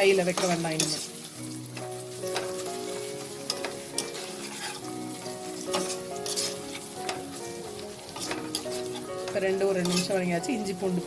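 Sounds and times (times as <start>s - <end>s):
food sizzling in oil: 0.0s - 11.0s
spatula scraping a pan: 0.1s - 10.9s.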